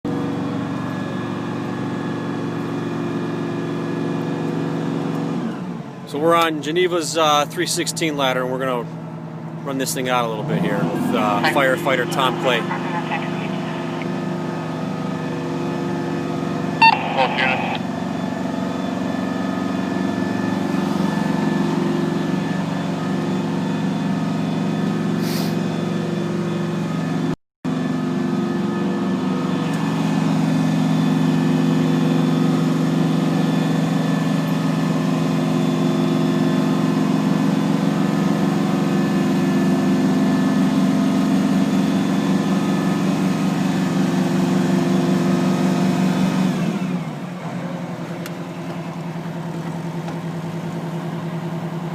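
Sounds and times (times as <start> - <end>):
fire truck engine at raised revs: 0.1 - 51.9.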